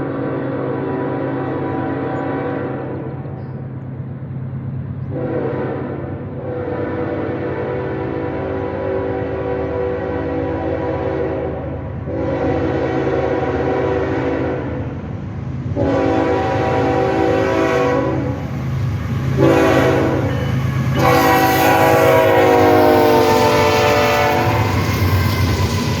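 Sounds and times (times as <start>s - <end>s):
train rumbling: 0.0s - 26.0s
locomotive air horn blasts: 0.1s - 3.3s, 5.1s - 14.9s, 15.8s - 18.4s, 19.2s - 24.9s.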